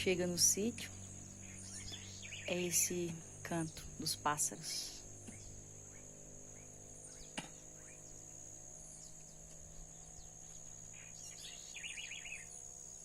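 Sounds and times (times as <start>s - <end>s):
birds chirping: 0.0s - 13.0s
insect drone: 0.0s - 13.0s.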